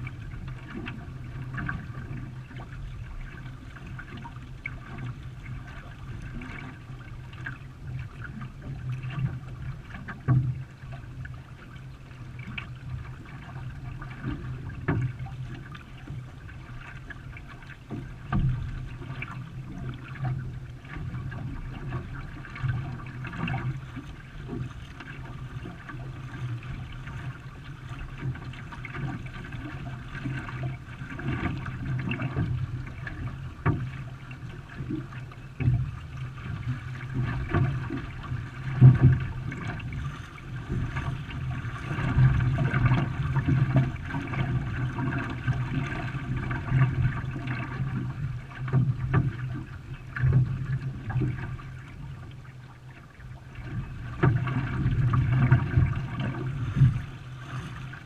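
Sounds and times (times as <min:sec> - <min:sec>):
paddle splashes or knocks: 0:00.0 - 0:58.0
water splashing around canoe: 0:00.0 - 0:58.0.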